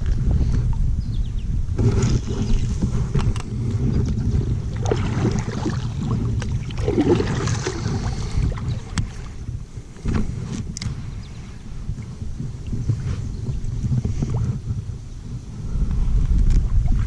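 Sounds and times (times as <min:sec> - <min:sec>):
water around kayak: 0:00.0 - 0:17.0
wind buffeting microphone: 0:00.0 - 0:17.0.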